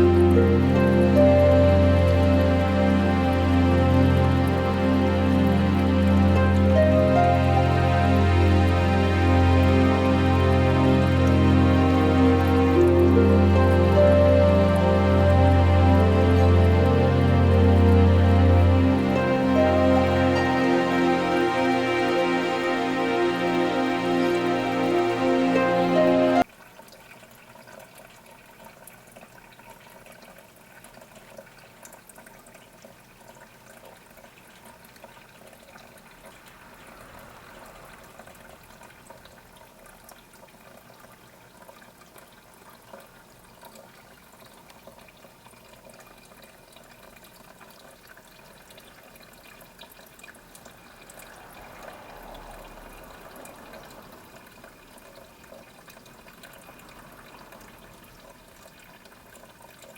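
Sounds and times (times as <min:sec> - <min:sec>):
small waterfall trickling and splashing: 0:00.0 - 0:59.9.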